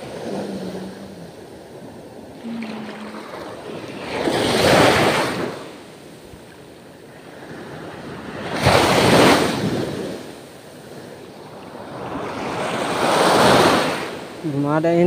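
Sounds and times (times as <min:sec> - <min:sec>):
small waves washing on beach: 0:00.0 - 0:15.0.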